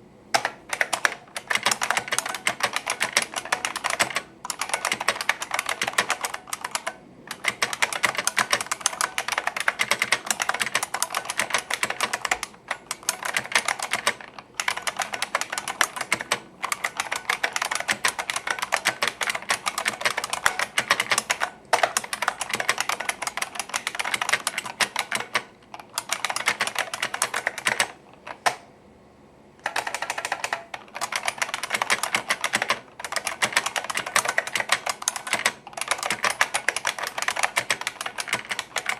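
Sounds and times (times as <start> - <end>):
rapid clicky keyboard typing: 0.3 - 28.6, 29.6 - 38.9.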